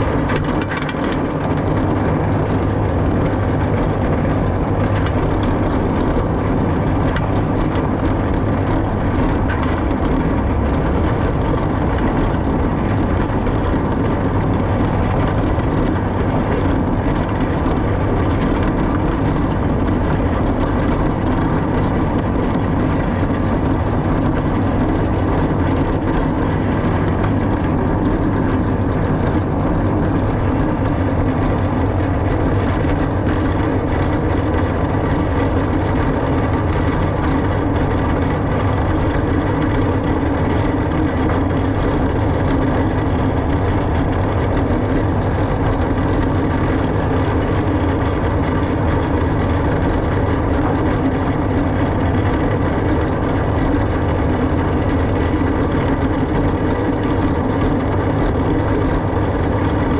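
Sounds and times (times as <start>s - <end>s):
tractor and forage chopper running: 0.0s - 59.9s.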